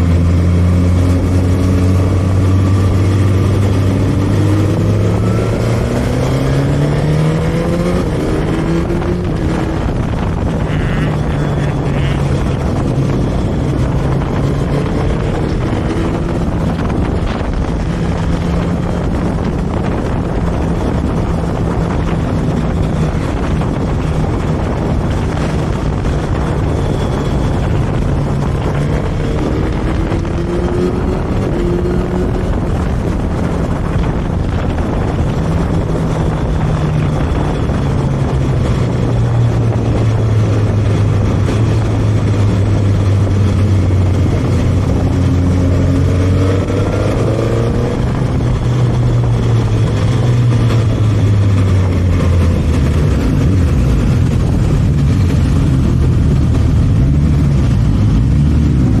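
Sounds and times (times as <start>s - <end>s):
motorcycle engine running: 0.0s - 59.0s
road noise: 0.0s - 59.0s
wind rush: 0.0s - 59.0s.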